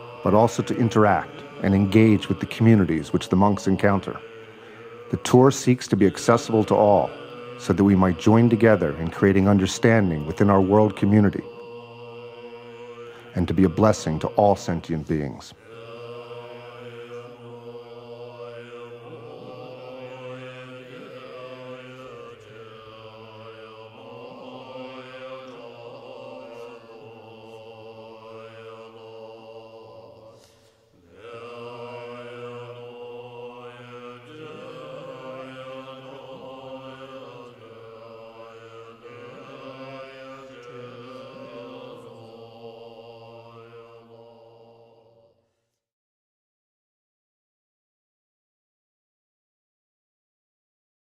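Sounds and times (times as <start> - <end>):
monks chanting in deep drone: 0.0 - 45.5.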